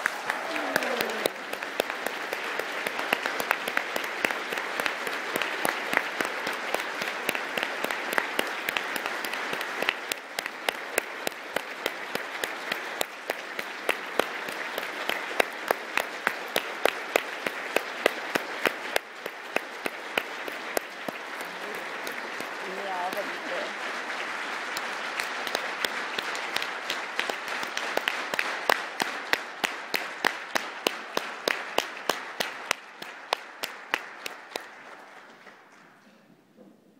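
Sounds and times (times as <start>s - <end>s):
audience applauding: 0.0s - 36.0s
rhythmic clapping: 0.0s - 36.0s.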